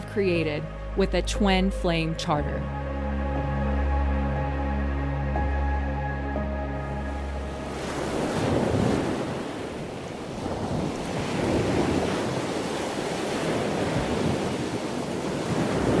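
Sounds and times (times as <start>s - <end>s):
wind: 0.0s - 16.0s
ocean surf washing ashore: 3.0s - 16.0s.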